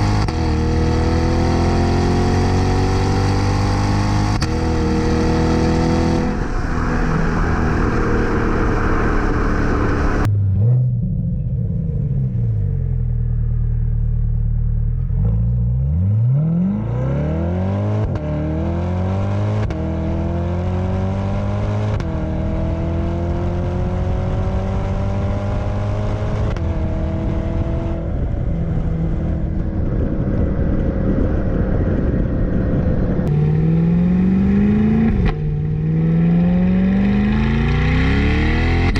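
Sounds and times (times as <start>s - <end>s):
car engine revving with upshifts: 0.0s - 11.1s, 15.0s - 29.6s, 33.2s - 38.9s.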